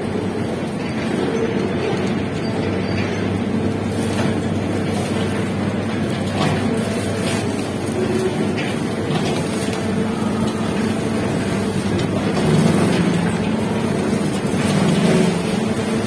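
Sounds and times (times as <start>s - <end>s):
crane low hum: 0.0s - 16.0s
mill machinery drone: 0.0s - 16.0s.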